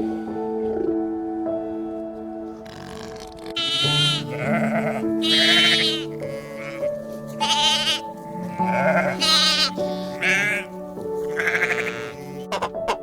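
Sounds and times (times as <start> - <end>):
music with long held notes: 0.0 - 13.0
livestock bleating: 2.6 - 13.0.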